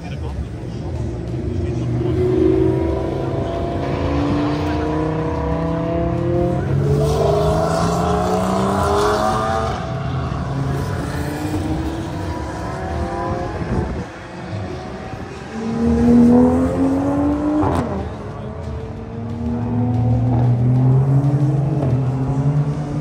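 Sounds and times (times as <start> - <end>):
race car engines running hard: 0.0 - 23.0.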